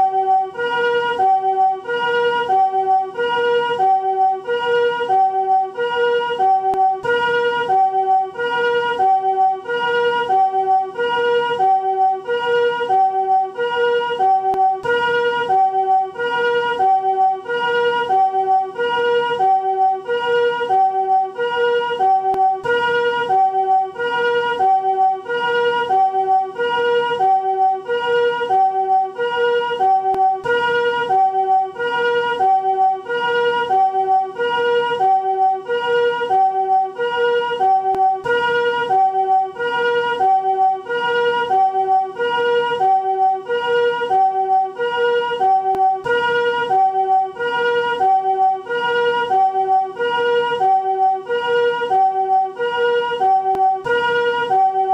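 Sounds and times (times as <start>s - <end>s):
two-tone ambulance siren: 0.0s - 54.9s.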